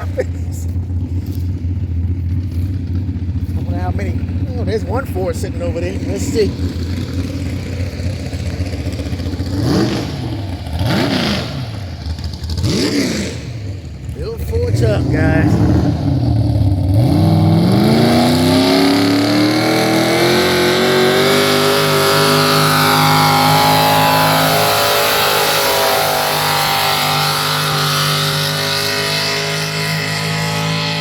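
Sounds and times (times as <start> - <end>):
tractor engine revving under load: 0.0 - 31.0.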